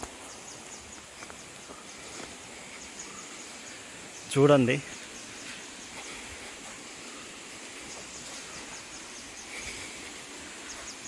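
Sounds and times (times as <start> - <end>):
insects chirping: 0.0 - 11.0
steady hiss: 0.0 - 11.0.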